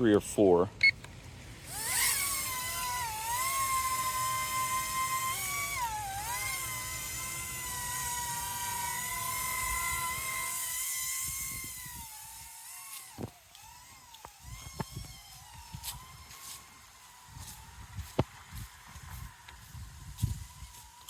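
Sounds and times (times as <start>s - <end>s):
toy helicopter rotor motors whining: 0.4s - 21.0s.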